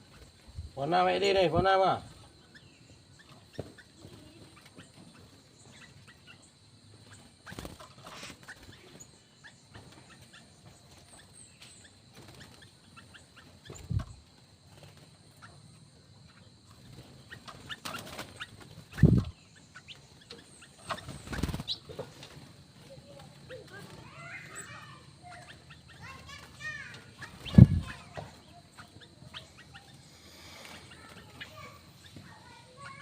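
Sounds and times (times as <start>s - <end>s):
aviary birds chirping: 0.0s - 33.0s.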